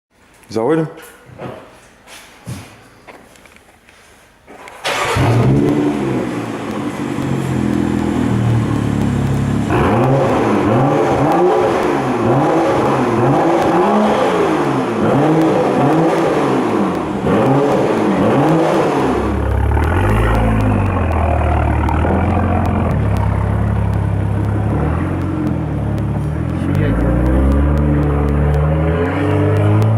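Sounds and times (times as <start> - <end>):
car engine starting: 4.7 - 29.9
car engine idling: 4.9 - 29.9
car engine revving: 4.9 - 29.9.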